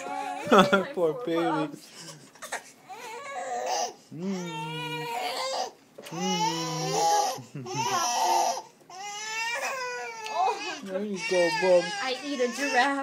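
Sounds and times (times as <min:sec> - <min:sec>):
baby crying: 0:02.4 - 0:13.0.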